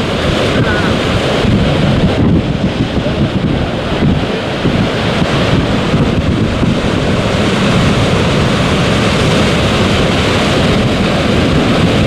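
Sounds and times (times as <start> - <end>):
surf breaking on rocks: 0.0 - 12.0
wind buffeting microphone: 0.0 - 12.0.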